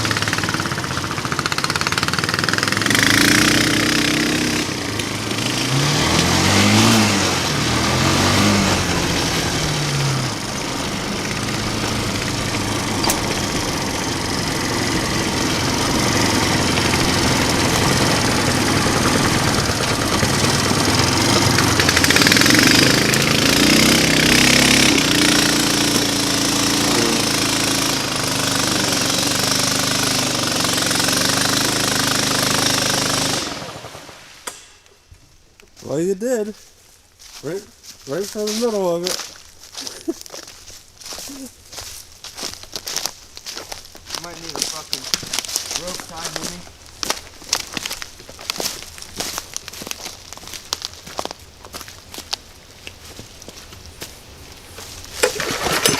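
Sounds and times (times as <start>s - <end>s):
mini-bike engine revving: 0.0s - 34.6s, 38.1s - 49.8s, 55.2s - 55.9s.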